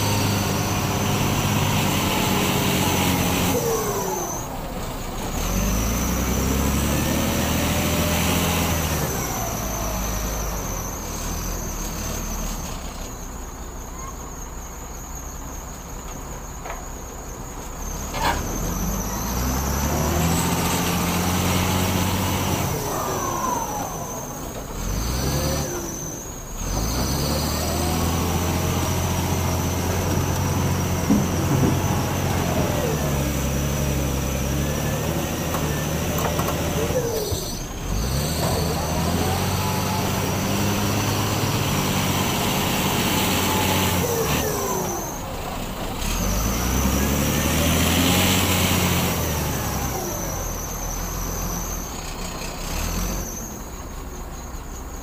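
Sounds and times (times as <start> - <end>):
heavy diesel vehicles running: 0.0 - 55.0.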